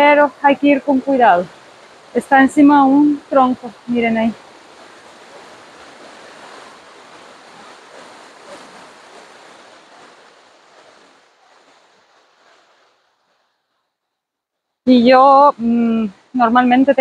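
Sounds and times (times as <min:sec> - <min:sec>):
rushing stream and waterfalls: 0:00.0 - 0:17.0.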